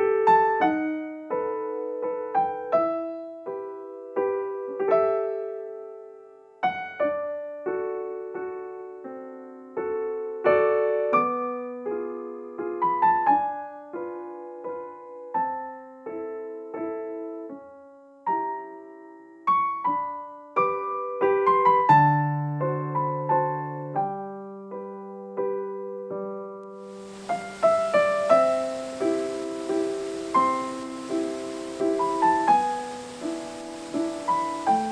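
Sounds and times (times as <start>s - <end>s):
slow solo piano music: 0.0s - 34.9s.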